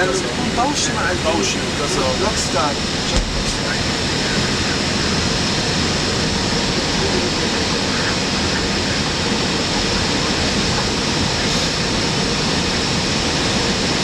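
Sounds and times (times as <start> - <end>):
cockpit airflow and engine noise: 0.0 - 14.0.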